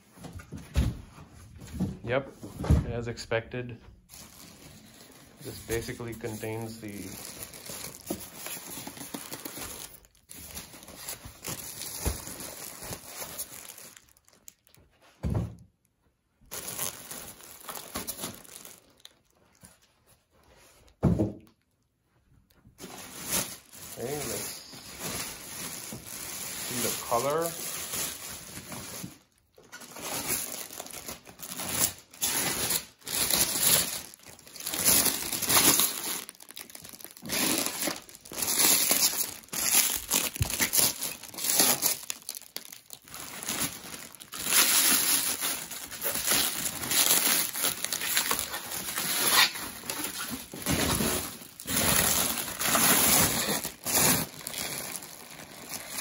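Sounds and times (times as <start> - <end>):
packing material crinkling: 4.1 - 15.0, 16.4 - 21.0, 22.4 - 56.0.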